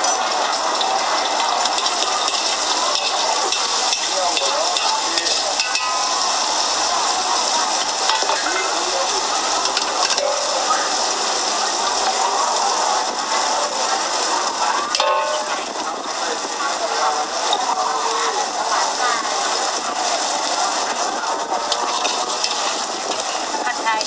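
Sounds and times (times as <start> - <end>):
food sizzling in a wok: 0.0 - 24.0.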